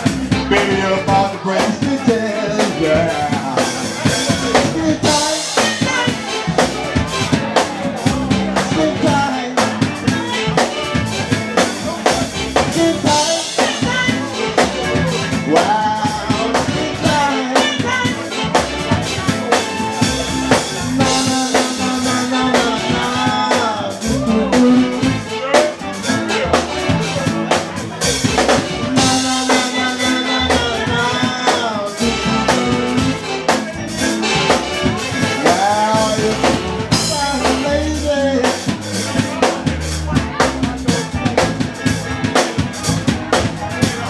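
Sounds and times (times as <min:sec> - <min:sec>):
drum kit beat with rimshots: 0:00.0 - 0:44.0
soul band playing: 0:00.0 - 0:44.0
person singing: 0:00.1 - 0:44.0.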